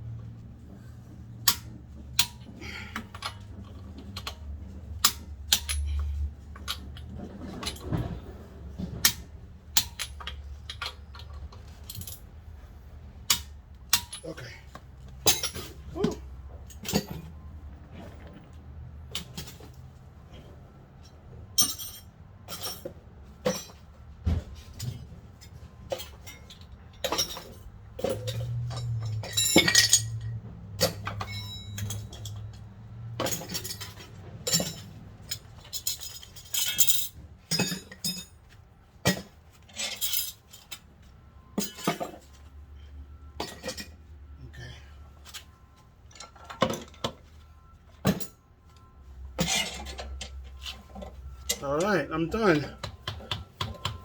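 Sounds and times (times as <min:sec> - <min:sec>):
metal tools clinking: 0:00.3 - 0:08.2, 0:13.2 - 0:18.5, 0:19.1 - 0:23.9, 0:24.6 - 0:42.5, 0:43.2 - 0:54.0.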